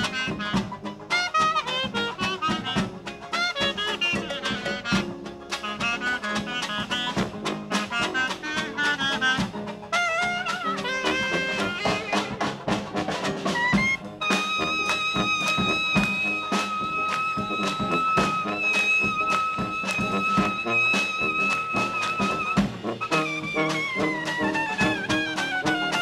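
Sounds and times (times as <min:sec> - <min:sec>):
traditional jazz band playing: 0:00.0 - 0:26.0.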